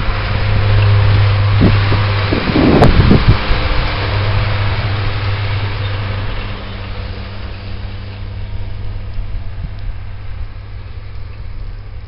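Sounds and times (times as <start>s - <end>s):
truck engine driving past: 0.0s - 12.0s.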